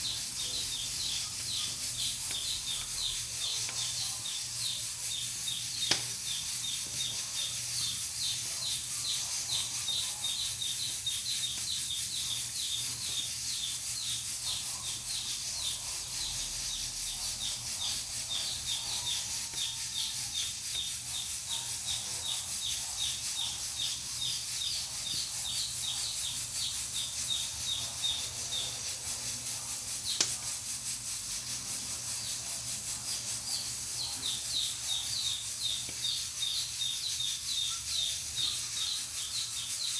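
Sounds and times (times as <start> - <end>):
pressure cooker hissing: 0.0 - 39.9.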